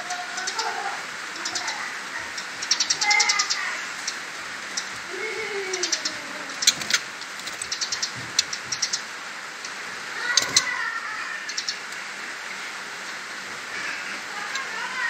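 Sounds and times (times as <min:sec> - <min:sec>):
birds ticking and clicking: 0:00.0 - 0:15.0
steady background hiss: 0:00.0 - 0:15.0.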